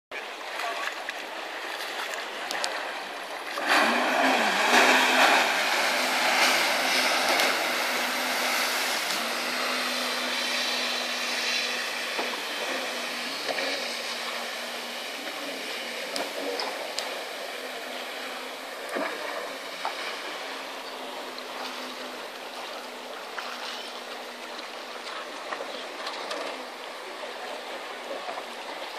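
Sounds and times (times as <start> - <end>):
jet ski engine: 0.2 - 28.9
rush of spray: 0.2 - 28.9.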